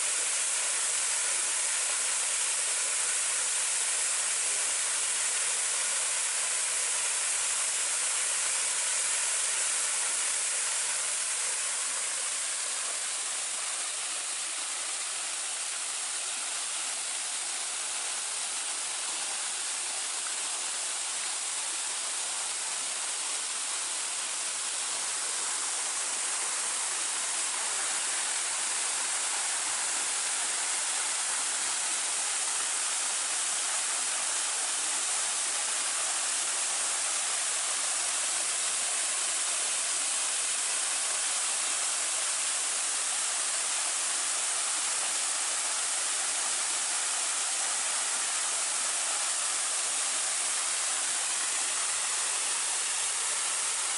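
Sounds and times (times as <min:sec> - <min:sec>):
waterfall rushing and splashing: 0:00.0 - 0:53.9.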